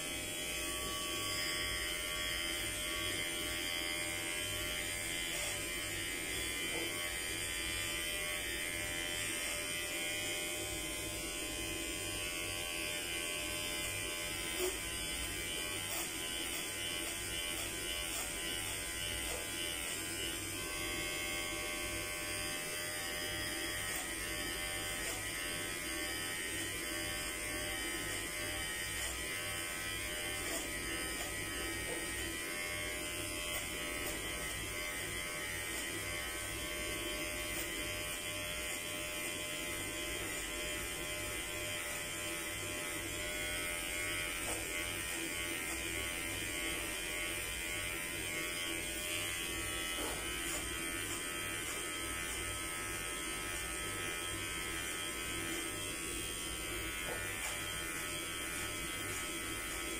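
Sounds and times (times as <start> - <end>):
electric hair clippers buzzing: 0.0 - 59.9.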